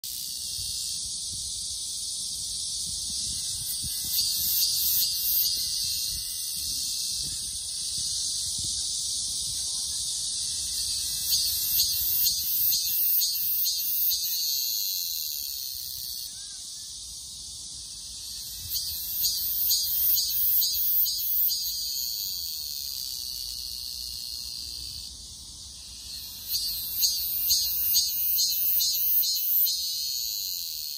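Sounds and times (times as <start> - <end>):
cicada buzzing: 0.0 - 30.9.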